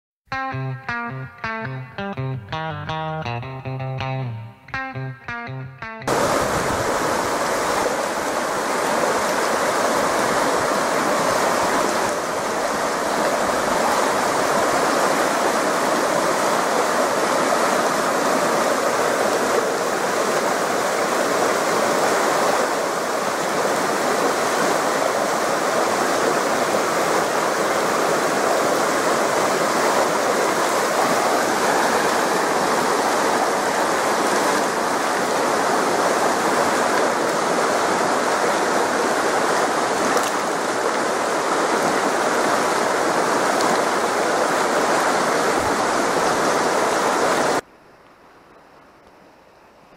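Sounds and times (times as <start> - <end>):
river rushing over rocks: 6.1 - 47.6.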